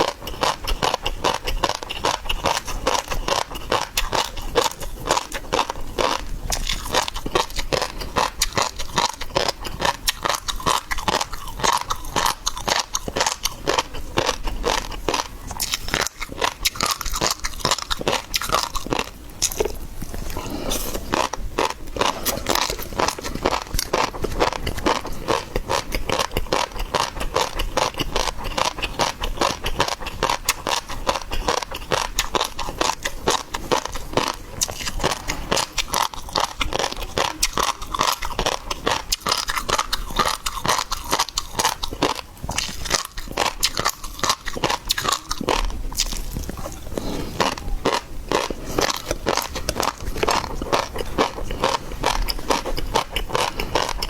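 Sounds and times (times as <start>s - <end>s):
chewing seafood: 0.0s - 54.0s.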